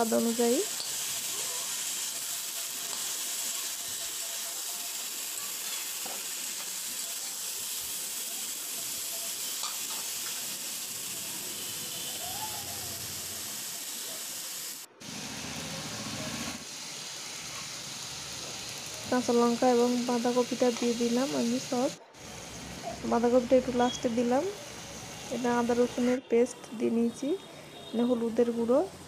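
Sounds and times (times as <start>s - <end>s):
vegetables sizzling in oil: 0.0s - 26.2s.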